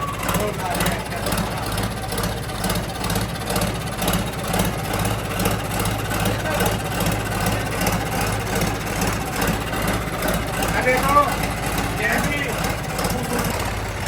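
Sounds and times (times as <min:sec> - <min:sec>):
diesel tractor engine idling: 0:00.0 - 0:14.0.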